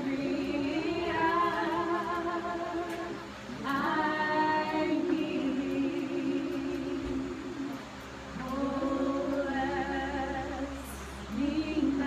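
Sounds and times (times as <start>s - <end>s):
voices singing a cappella: 0.0s - 12.0s.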